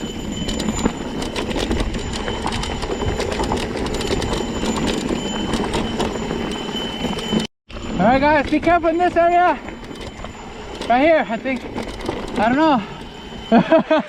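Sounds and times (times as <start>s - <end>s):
bike frame rattling: 0.0s - 14.0s.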